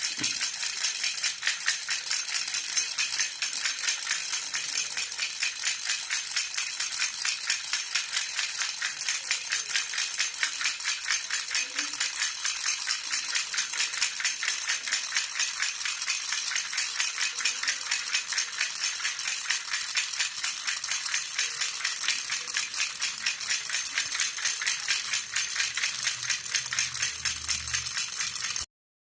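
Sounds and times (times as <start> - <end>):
baby rattle shaking: 0.0 - 28.7.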